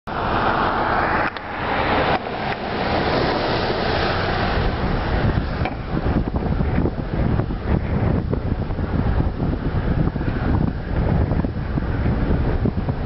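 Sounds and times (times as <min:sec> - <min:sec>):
storm wind buffeting microphone: 0:00.1 - 0:13.0.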